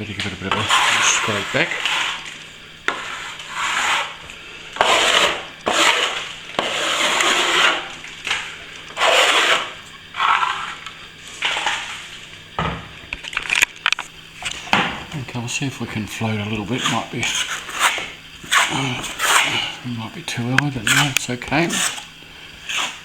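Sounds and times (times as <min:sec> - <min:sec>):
blade scraping plaster: 0:00.4 - 0:12.1, 0:14.4 - 0:23.0.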